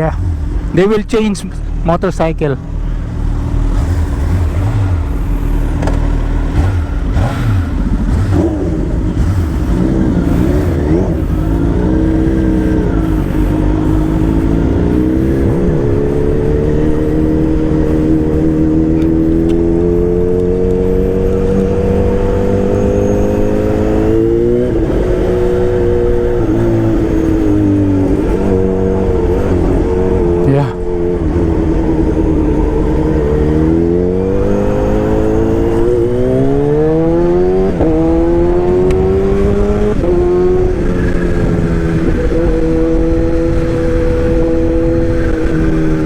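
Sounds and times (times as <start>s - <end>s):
vehicle engine accelerating: 0.0s - 46.0s.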